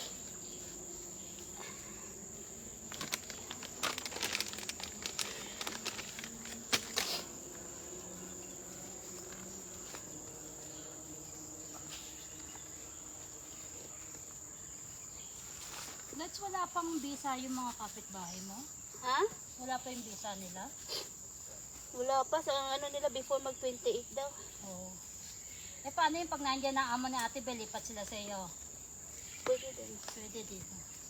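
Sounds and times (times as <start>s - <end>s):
crackles and rustles of leaves: 0.0s - 31.0s
insects droning: 0.0s - 31.0s.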